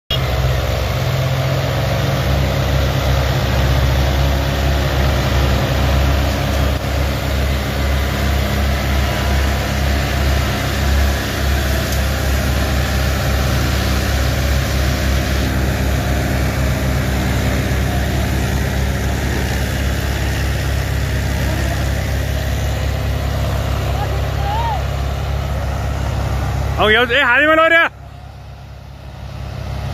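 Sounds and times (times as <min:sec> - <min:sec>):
tractor diesel engines under load: 0:00.1 - 0:29.9.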